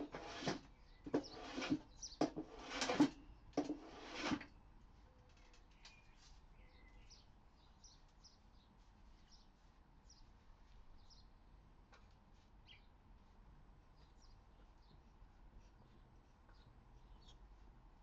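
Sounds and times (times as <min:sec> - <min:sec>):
faint birds chirping: 0:00.0 - 0:03.8, 0:04.5 - 0:18.0.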